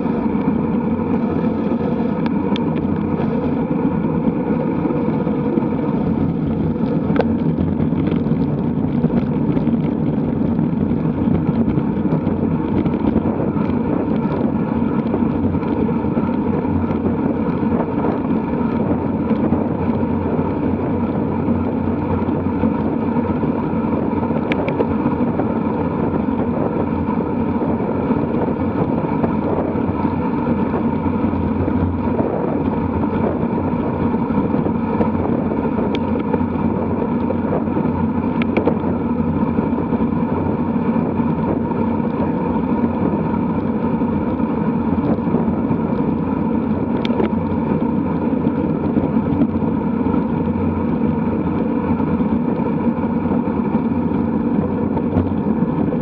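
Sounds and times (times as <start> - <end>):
road rumble: 0.0 - 56.0
wind rush on microphone: 0.0 - 56.0.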